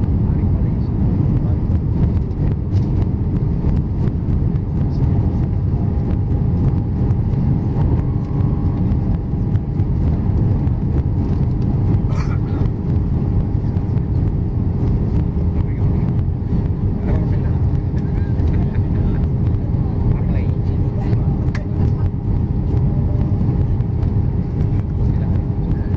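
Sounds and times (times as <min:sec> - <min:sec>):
airplane cabin engine rumble: 0:00.0 - 0:25.9
faint steady hum: 0:00.0 - 0:25.9.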